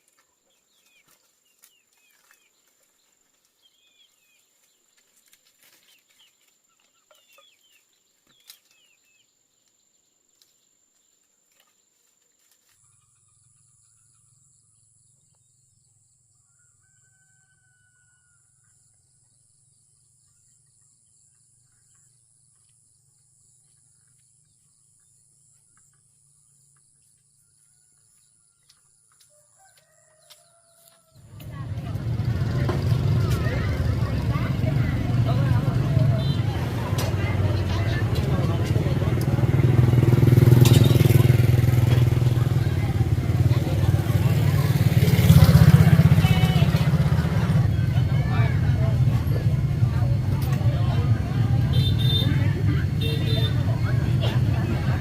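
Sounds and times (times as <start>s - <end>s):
small birds chirping: 0.0s - 45.4s.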